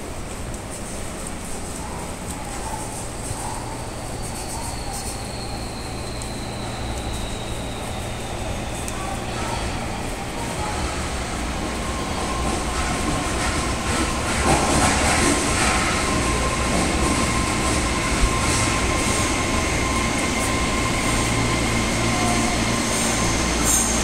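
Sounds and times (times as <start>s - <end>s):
subway train pulling into station: 0.0s - 24.0s.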